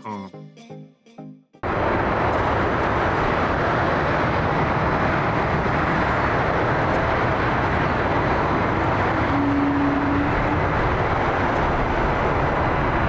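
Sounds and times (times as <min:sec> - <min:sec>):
jet engines rushing: 0:01.6 - 0:13.0.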